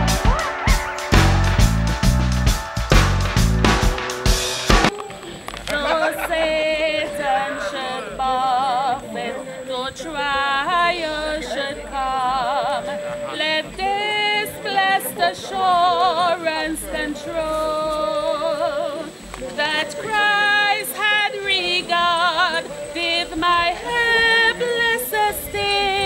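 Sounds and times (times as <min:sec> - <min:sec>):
person singing with vibrato: 0:04.9 - 0:26.0.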